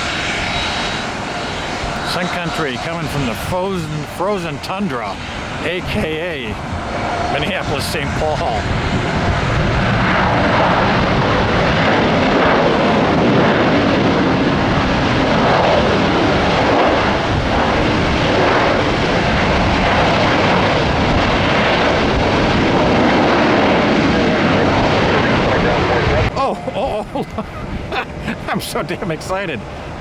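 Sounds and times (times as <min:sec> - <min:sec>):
jet airliner roaring past: 0:00.0 - 0:30.0.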